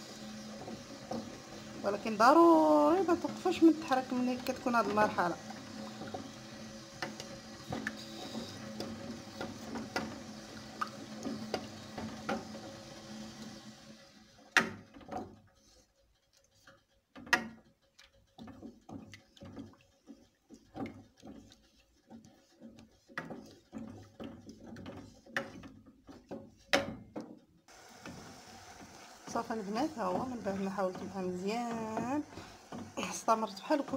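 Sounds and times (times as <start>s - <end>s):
wooden spatula scraping saucepan: 0.0s - 13.6s, 14.3s - 27.3s, 28.0s - 33.9s.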